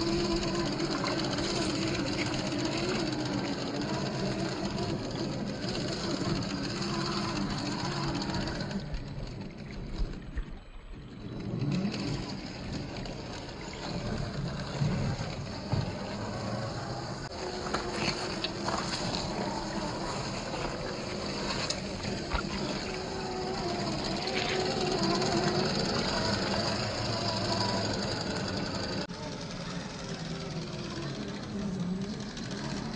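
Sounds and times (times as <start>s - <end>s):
toy car motor whirring: 0.0s - 10.4s, 11.2s - 32.9s.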